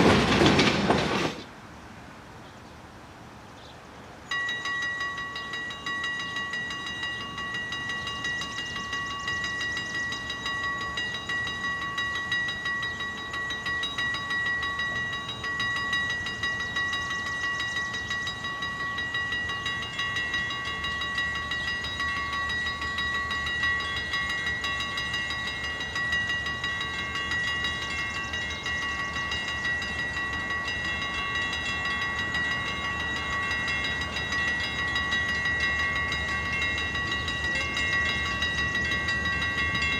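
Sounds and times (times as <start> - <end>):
low rumble of approaching train: 0.0 - 39.9
railroad crossing bell ringing: 4.2 - 39.9.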